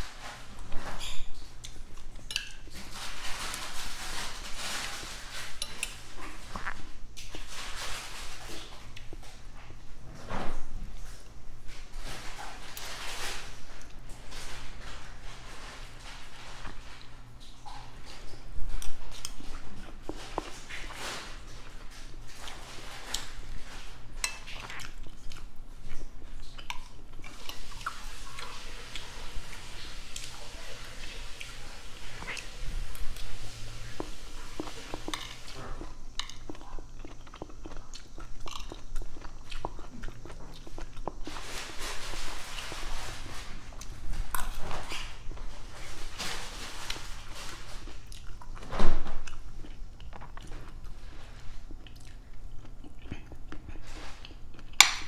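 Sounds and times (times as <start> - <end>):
chewing: 0.1 - 9.8, 10.8 - 55.0.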